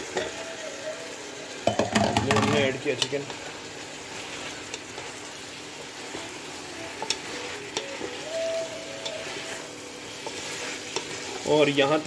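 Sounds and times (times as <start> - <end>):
chicken and vegetables sizzling: 0.0 - 12.0.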